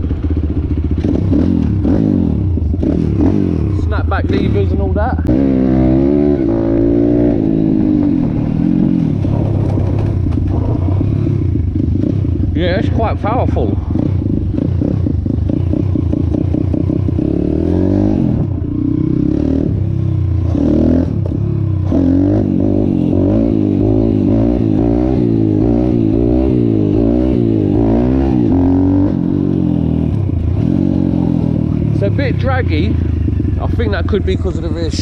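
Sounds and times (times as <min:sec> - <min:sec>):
motorbike engine revving: 0:00.0 - 0:35.0.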